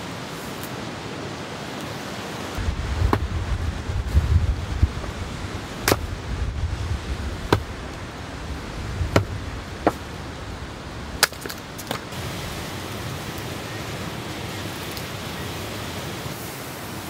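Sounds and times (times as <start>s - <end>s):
rain hiss: 0.0s - 17.0s
wind rumble: 2.6s - 16.8s.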